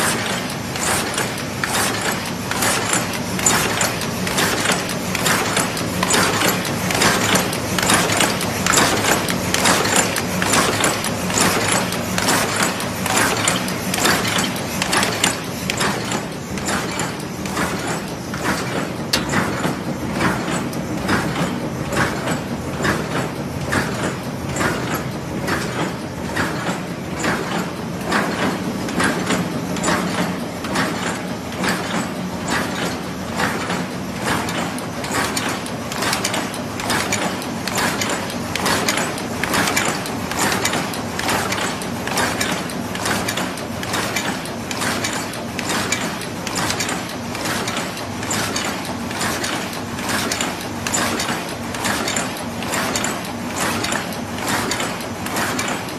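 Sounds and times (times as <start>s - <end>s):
machine rhythmic mechanical clatter: 0.0s - 55.9s.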